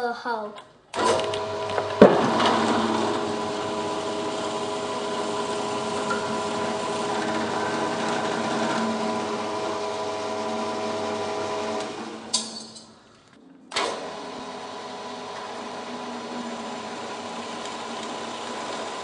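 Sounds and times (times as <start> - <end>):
drill press motor hum and whine: 1.0 - 12.4, 13.8 - 19.0.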